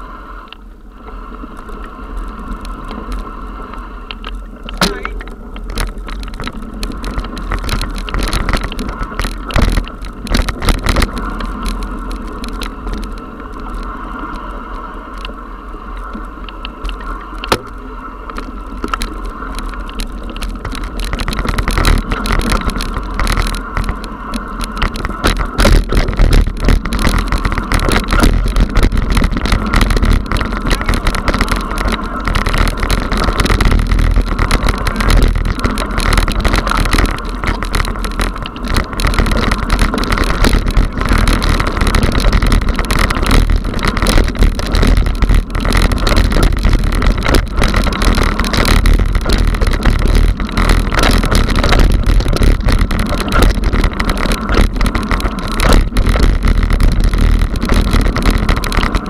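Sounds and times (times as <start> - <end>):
bike tyre and ride noise: 0.0 - 59.0
bike rattling and knocking: 4.1 - 15.3, 15.9 - 59.0.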